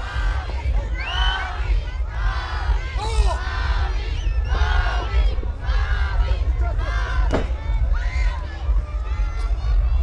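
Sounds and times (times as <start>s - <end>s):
crowd shouting and cheering: 0.0s - 10.0s
low rumble: 0.0s - 10.0s.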